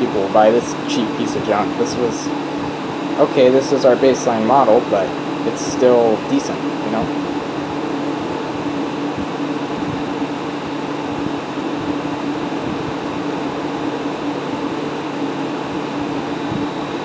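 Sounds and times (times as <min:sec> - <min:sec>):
air conditioner fan rushing: 0:00.0 - 0:17.0
compressor humming: 0:00.0 - 0:17.0.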